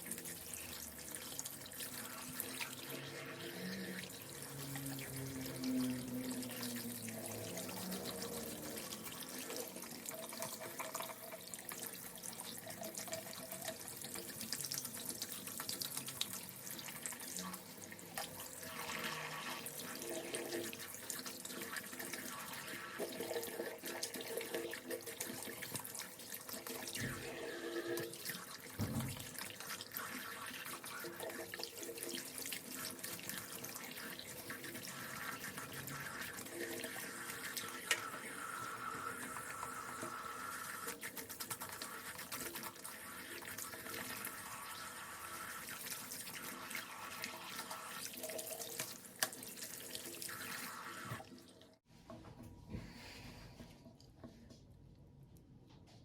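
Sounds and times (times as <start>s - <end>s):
tap water running into sink: 0.0s - 51.7s.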